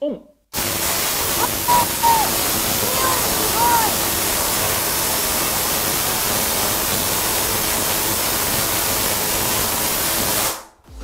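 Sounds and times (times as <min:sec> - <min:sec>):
tesla coil sparks hissing: 0:00.6 - 0:10.8.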